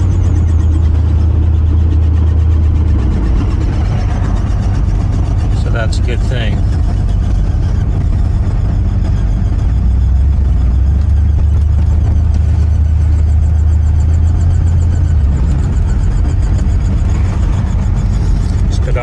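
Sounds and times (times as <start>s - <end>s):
engine and road drone: 0.0s - 19.0s.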